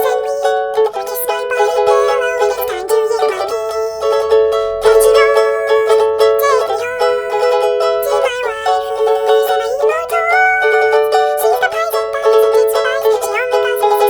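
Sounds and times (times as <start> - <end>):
high voice singing: 0.0 - 14.0
plucked-string accompaniment: 0.0 - 14.0.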